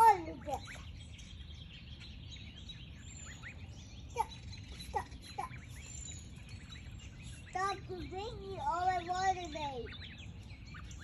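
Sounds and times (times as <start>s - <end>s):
ducklings peeping: 0.0s - 11.0s
low outdoor rumble: 0.0s - 11.0s.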